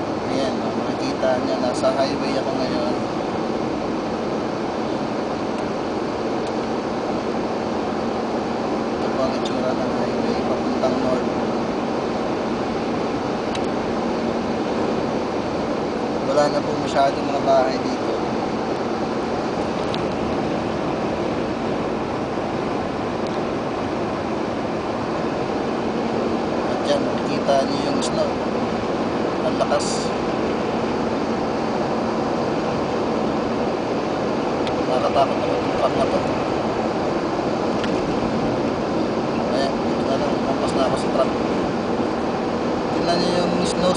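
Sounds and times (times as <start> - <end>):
car driving noise at highway speed: 0.0 - 43.9.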